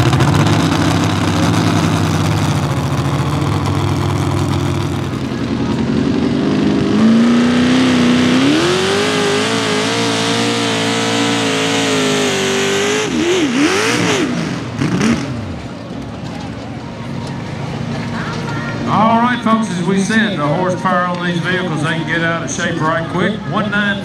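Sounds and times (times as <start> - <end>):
tractor engine running hard: 0.0 - 24.0.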